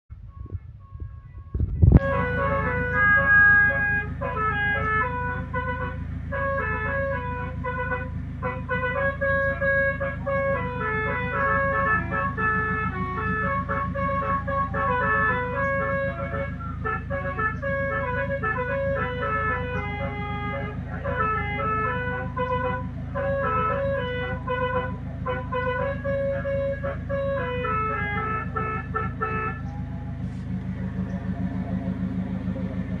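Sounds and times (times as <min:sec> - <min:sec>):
low pulsing hum: 0:00.1 - 0:33.0
steady low drone: 0:00.1 - 0:33.0
horn playing a tune: 0:00.3 - 0:33.0.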